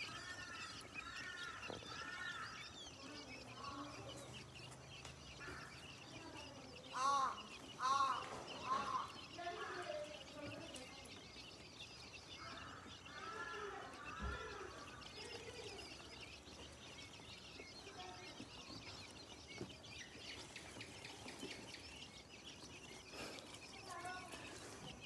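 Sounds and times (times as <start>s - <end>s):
bird chicks chirping: 0.0s - 25.0s
loud arching bird calls: 0.0s - 25.0s.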